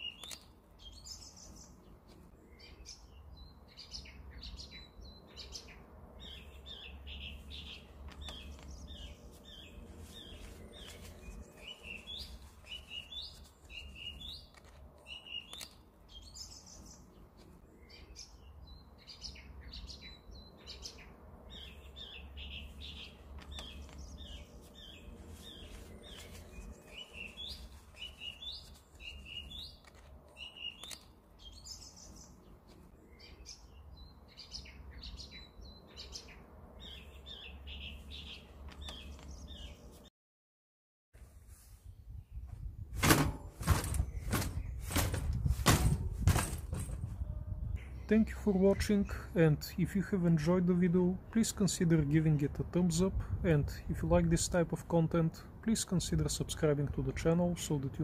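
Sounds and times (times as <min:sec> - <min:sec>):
songbirds chirping and twittering: 0:00.0 - 0:40.1, 0:41.2 - 0:58.0.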